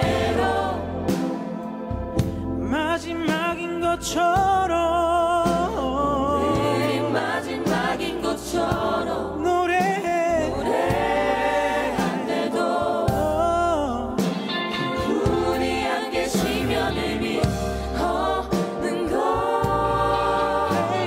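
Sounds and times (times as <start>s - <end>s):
group singing praise song in harmony: 0.0s - 2.5s, 6.0s - 21.0s.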